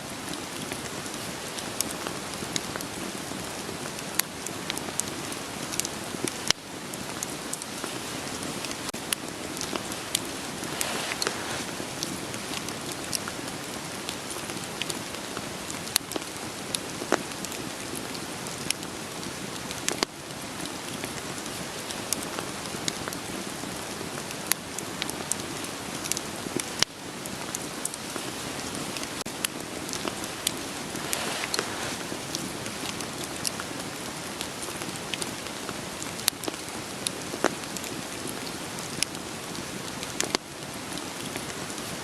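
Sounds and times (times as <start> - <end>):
steady rain: 0.0 - 42.0
wood fire crackling: 0.1 - 42.0.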